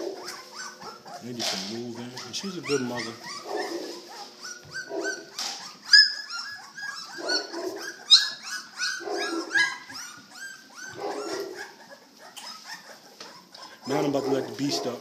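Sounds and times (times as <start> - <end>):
lower fuller puppy cries: 0.0 - 15.0
puppies squeaking and whimpering: 0.0 - 15.0.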